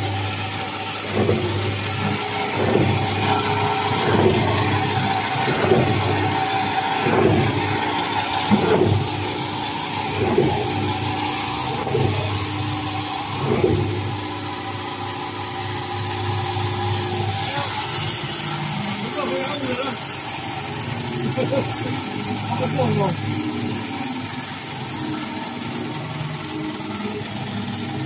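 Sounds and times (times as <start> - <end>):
electric motor hum: 0.0 - 28.0.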